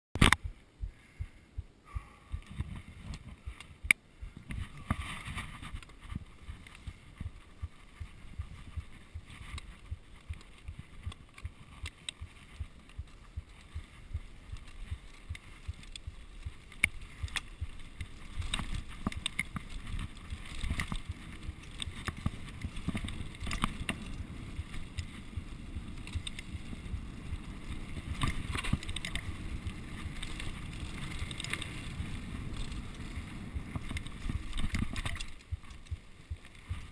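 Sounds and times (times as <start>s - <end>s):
wind rumbling on microphone: 0.2s - 36.9s
bike rattling over bumps: 2.5s - 36.9s.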